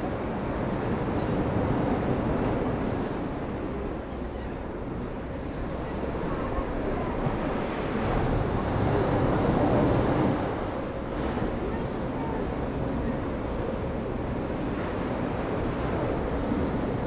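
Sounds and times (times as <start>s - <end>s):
ocean surf washing: 0.0s - 17.0s
wind rumbling on microphone: 0.0s - 17.0s.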